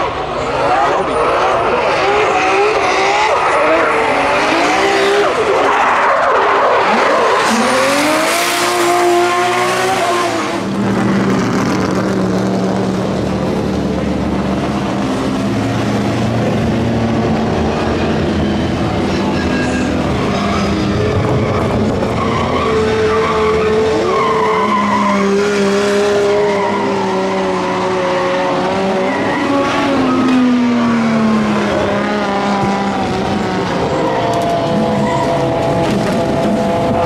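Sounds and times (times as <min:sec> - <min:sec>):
car engines revving: 0:00.0 - 0:37.0
tyres skidding: 0:00.0 - 0:37.0.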